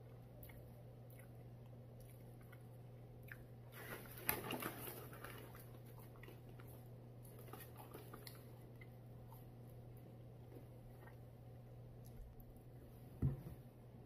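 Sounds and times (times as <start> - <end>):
person chewing: 0.0 - 12.7.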